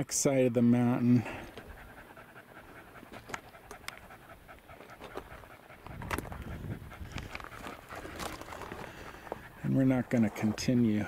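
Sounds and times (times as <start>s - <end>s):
dog panting: 0.6s - 11.0s.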